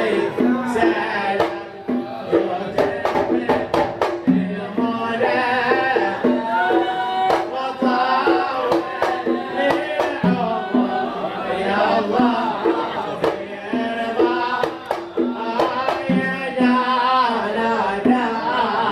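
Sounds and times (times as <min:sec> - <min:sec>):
hand drums: 0:00.0 - 0:18.9
man singing a devotional chant: 0:00.0 - 0:18.9.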